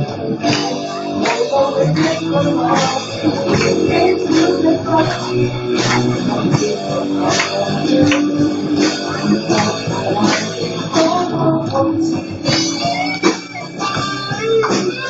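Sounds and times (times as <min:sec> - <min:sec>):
guitar chords: 0:00.0 - 0:15.0
live band music: 0:00.0 - 0:15.0.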